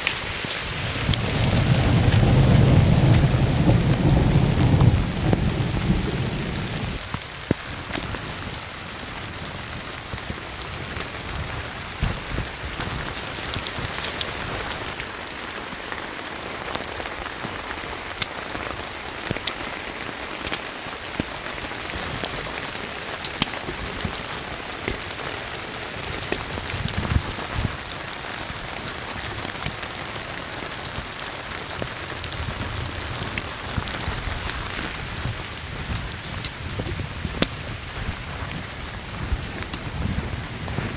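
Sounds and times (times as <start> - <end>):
heavy rain: 0.0 - 40.9
sharp raindrop impacts: 0.0 - 40.9
low thunder rumble: 0.2 - 15.0, 21.3 - 40.9.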